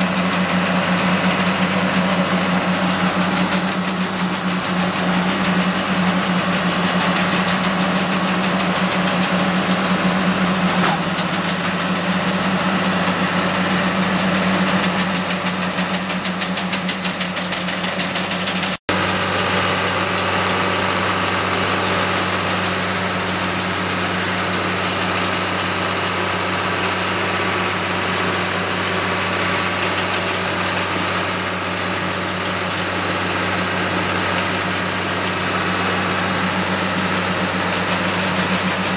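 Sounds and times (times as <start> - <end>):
harvester engine and mechanical clatter: 0.0 - 38.9.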